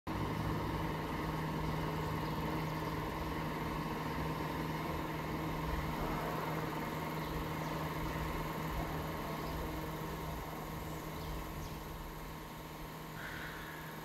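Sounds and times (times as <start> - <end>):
engine idling: 0.1 - 14.0.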